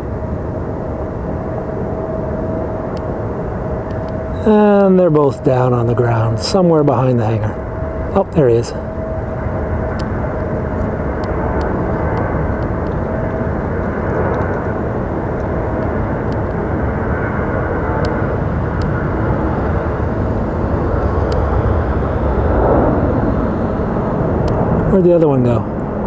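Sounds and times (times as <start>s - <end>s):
helicopter rotor and turbines: 0.0s - 26.0s.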